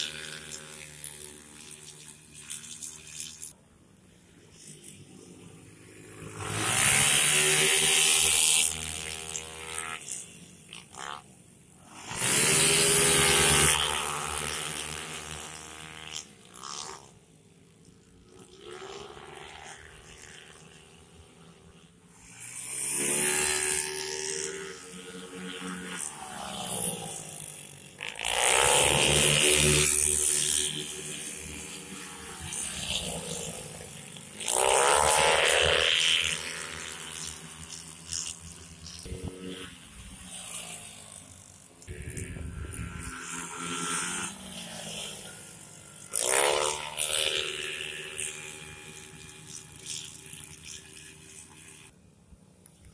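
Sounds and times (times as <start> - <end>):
motorcycles passing at high revs: 0.0 - 52.9.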